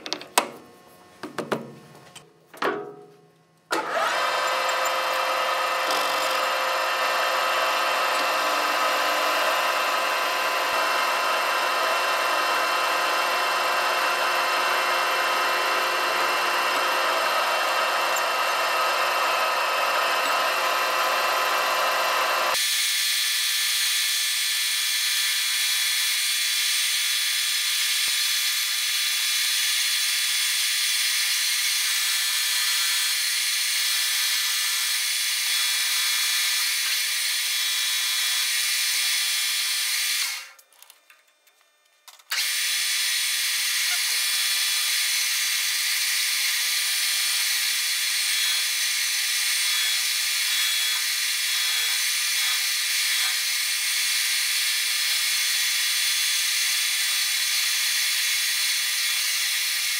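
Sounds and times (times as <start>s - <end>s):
metal lathe whining: 3.7s - 40.6s, 42.3s - 59.9s.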